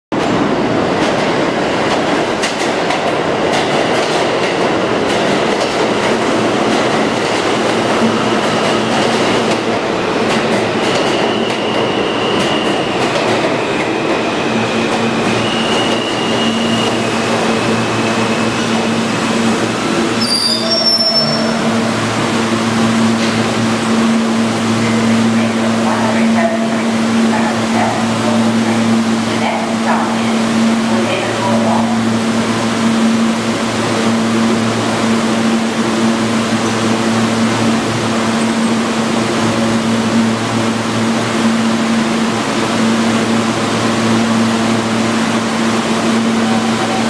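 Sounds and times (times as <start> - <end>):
train wheel and track noise: 0.1 - 47.0
train steady low hum: 0.2 - 47.0
train high whine: 6.0 - 47.0.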